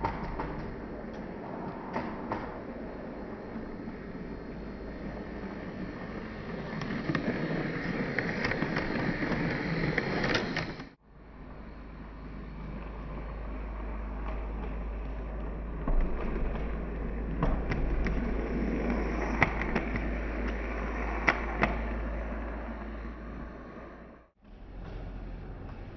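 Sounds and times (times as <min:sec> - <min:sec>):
low hum: 0:00.0 - 0:25.9
model train rolling whirr: 0:00.0 - 0:25.9.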